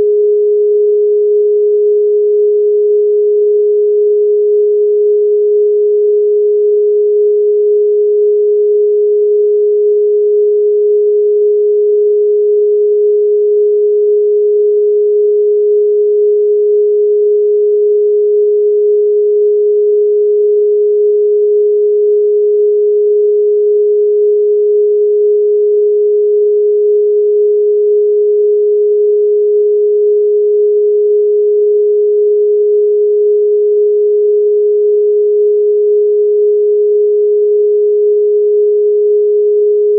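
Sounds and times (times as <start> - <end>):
steady pure sine tone: 0.0 - 39.9.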